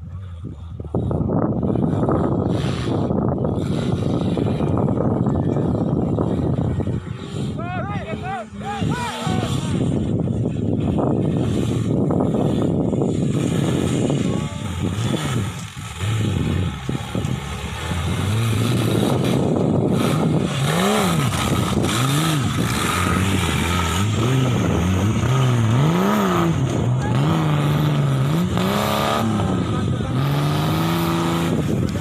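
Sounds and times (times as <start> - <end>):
buggy engine revving: 0.0 - 32.0.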